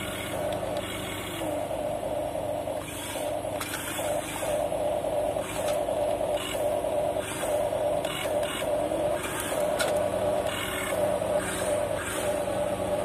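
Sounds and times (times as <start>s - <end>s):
electric gear motors whining: 0.0s - 13.0s
steady low hum: 0.0s - 13.0s.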